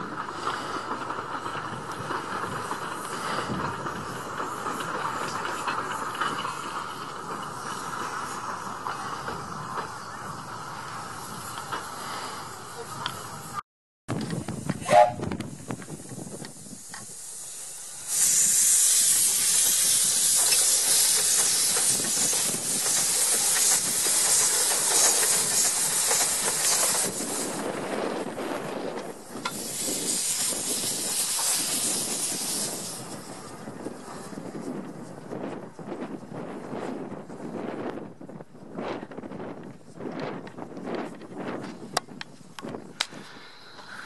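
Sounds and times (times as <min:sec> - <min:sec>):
steam locomotive hissing steam: 0:00.0 - 0:13.6, 0:14.3 - 0:37.6, 0:42.8 - 0:44.0.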